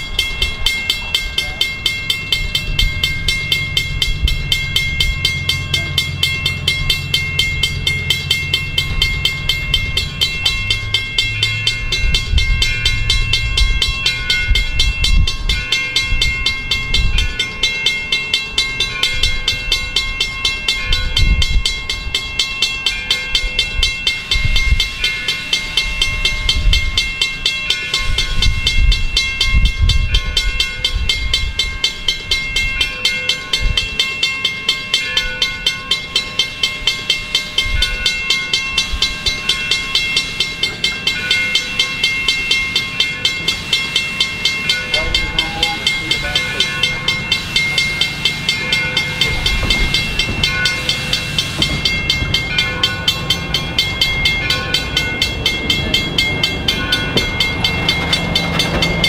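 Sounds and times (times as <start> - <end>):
crossing bell ringing: 0.0 - 59.0
train wheels rumbling: 0.0 - 59.0.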